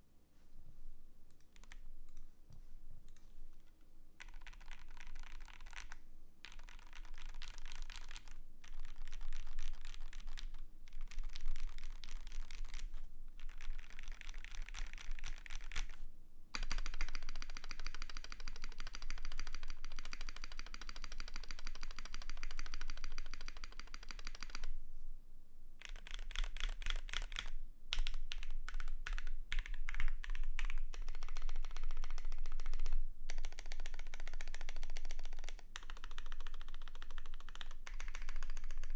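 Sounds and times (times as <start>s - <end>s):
mechanical keyboard typing: 4.2s - 16.0s, 16.6s - 24.7s, 25.8s - 38.9s.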